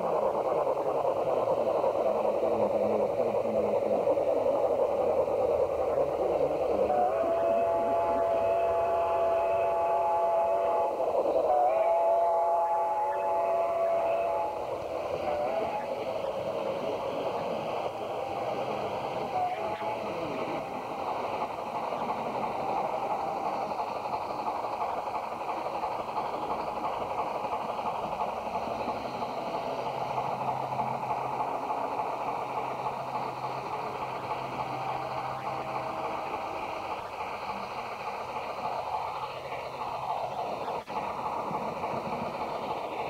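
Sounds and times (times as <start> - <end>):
model train wheels rolling on track: 0.0 - 43.0.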